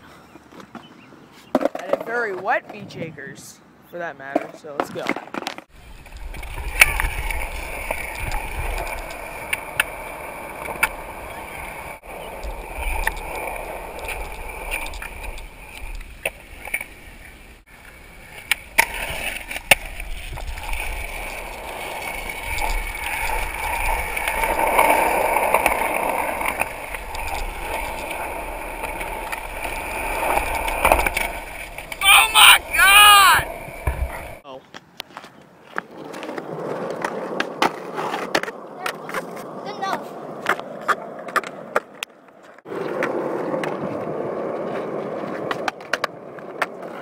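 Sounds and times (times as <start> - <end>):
skateboard wheels rolling on concrete: 0.0 - 47.0
skateboard popping and landing: 1.5 - 2.9, 4.3 - 16.9, 18.4 - 32.0, 33.4 - 47.0.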